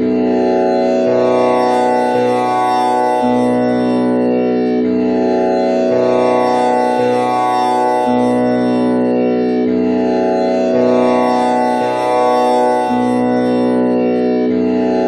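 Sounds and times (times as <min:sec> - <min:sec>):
tanpura plucked drone: 0:00.0 - 0:15.0.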